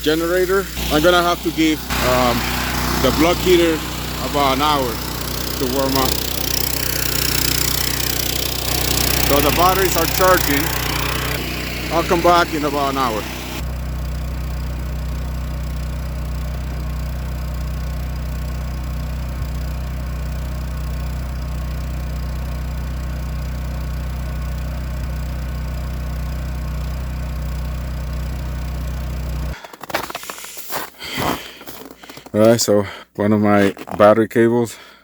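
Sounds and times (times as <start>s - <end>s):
generator engine humming: 0.0s - 33.9s.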